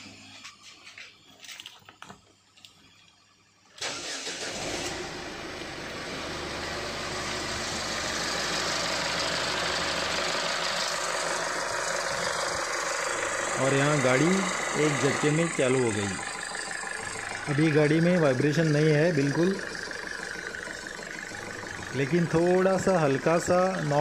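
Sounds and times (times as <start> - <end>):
diesel engine starting and idling: 3.5 - 24.0.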